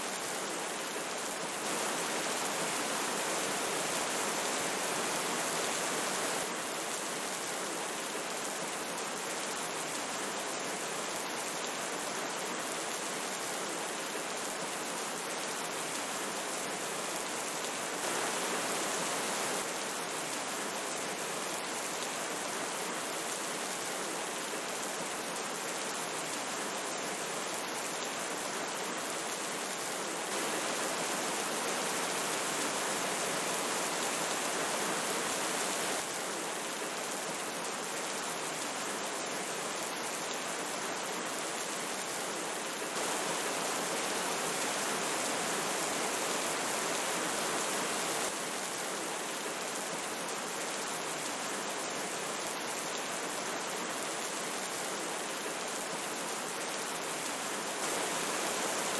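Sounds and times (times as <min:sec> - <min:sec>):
falling rain: 0:00.0 - 0:58.9
river flowing: 0:00.0 - 0:58.9.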